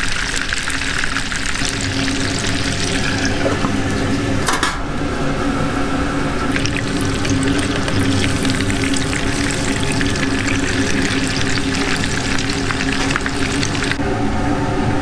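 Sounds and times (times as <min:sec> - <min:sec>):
food bubbling in deep oil: 0:00.0 - 0:04.4, 0:06.1 - 0:14.0
oil sizzling around frying meat: 0:00.0 - 0:04.5, 0:05.9 - 0:14.0.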